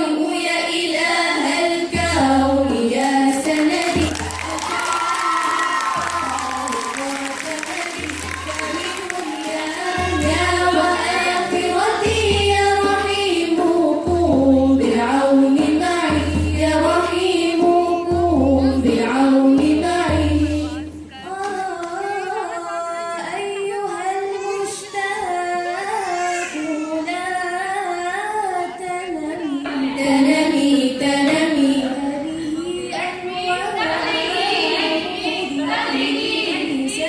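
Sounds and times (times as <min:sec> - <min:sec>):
high solo singing voice: 0:00.0 - 0:37.0.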